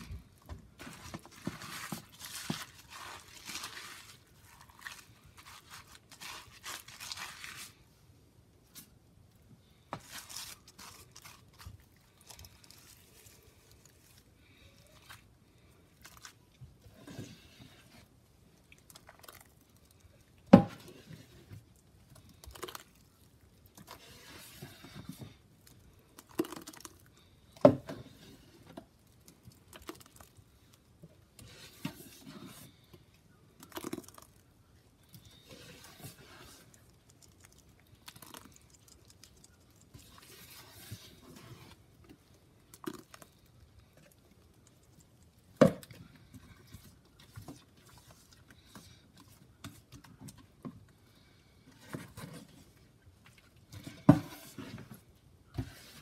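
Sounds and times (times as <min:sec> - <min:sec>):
paste squishing through mesh strainer: 0:00.0 - 0:07.9, 0:09.9 - 0:32.9, 0:33.6 - 0:50.6.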